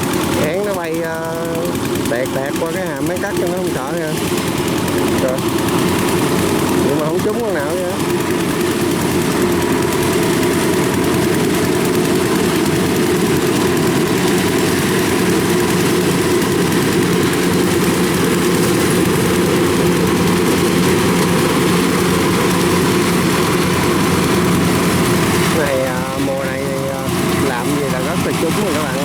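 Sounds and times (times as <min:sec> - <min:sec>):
combine harvester engine droning: 0:00.0 - 0:29.0.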